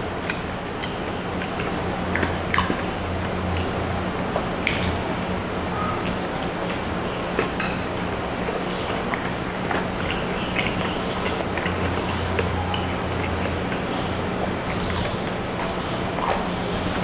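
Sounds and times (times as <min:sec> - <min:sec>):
steady low hum: 0:00.0 - 0:17.0
chewing and crunching snacks: 0:00.2 - 0:17.0.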